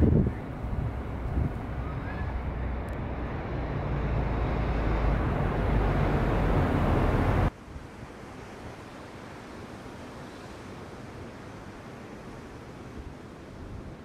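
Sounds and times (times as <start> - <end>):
sea surf: 0.0 - 14.0
wind rumbling on microphone: 0.0 - 14.0.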